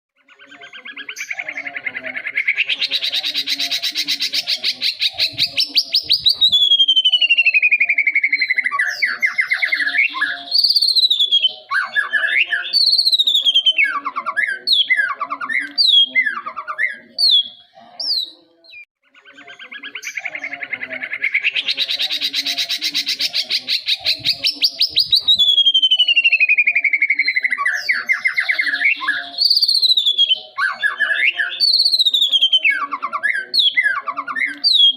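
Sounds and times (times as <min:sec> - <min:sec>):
bird singing: 0:00.2 - 0:34.9.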